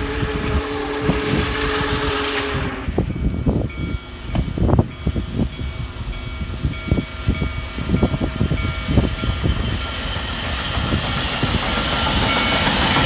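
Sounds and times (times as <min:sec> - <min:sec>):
steam locomotive whistle: 0:00.0 - 0:11.0.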